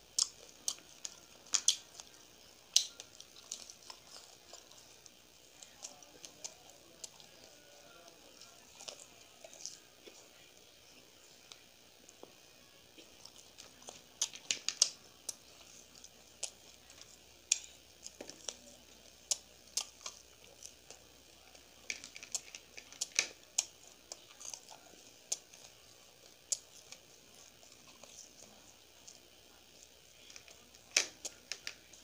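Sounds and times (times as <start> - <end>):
chewing mouth clicks and smacks: 0.1 - 10.2, 13.0 - 31.8.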